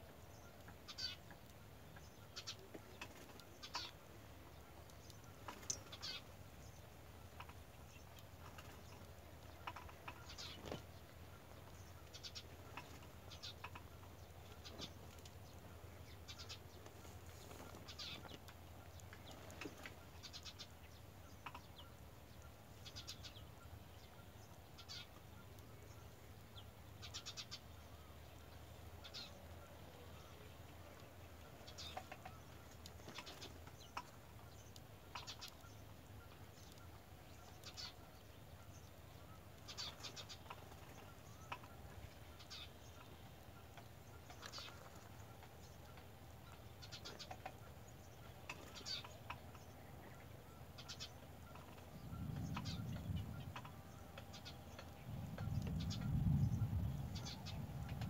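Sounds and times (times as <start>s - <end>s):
low steady hum: 0.0s - 58.0s
nestling begging calls: 0.4s - 4.1s, 4.7s - 25.8s, 27.0s - 27.7s, 31.0s - 58.0s.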